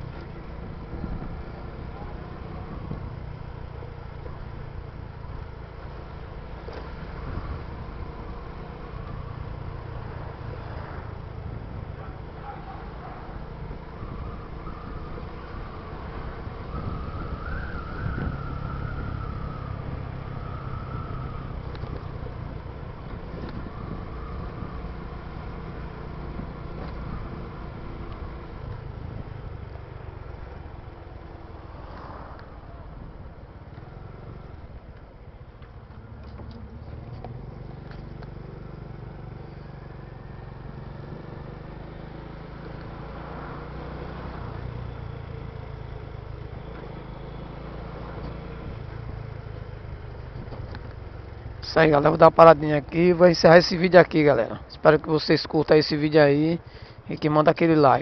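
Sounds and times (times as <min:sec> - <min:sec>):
vehicle engine and traffic rumble: 0:00.0 - 0:58.0.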